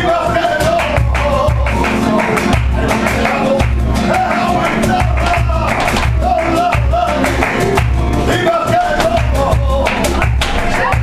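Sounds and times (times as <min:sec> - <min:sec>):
flamenco guitars: 0:00.0 - 0:11.0
person singing flamenco: 0:00.0 - 0:11.0
sharp hand claps: 0:00.2 - 0:11.0.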